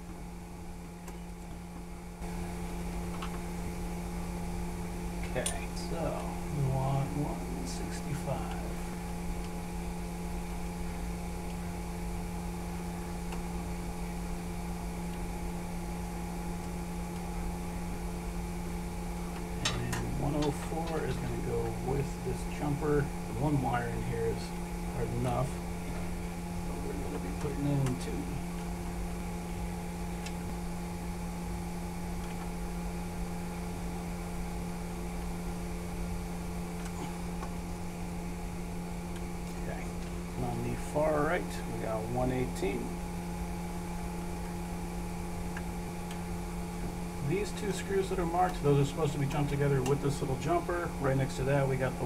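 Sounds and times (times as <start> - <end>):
machinery hum: 0.0 - 52.0.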